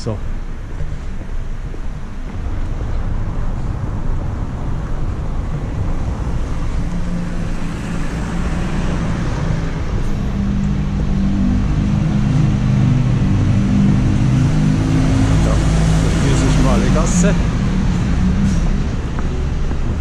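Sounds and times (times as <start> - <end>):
low traffic rumble: 0.0 - 20.0
vehicle engine hum: 0.0 - 20.0.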